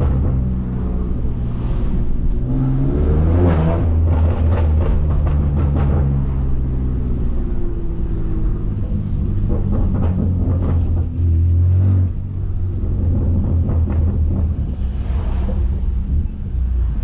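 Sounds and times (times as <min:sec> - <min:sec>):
car exhaust droning: 0:00.0 - 0:17.0.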